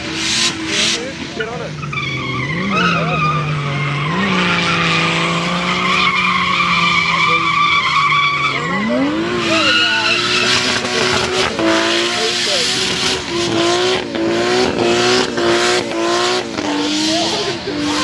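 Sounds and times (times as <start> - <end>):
car engine at high revs: 0.0 - 18.0
tyres squealing: 0.1 - 18.0.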